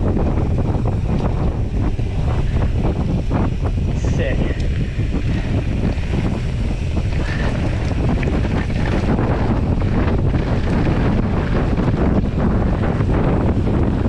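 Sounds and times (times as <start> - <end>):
bike rattling: 0.0 - 14.0
bike tyres rumbling on dirt: 0.0 - 14.0
wind buffeting microphone: 0.0 - 14.0.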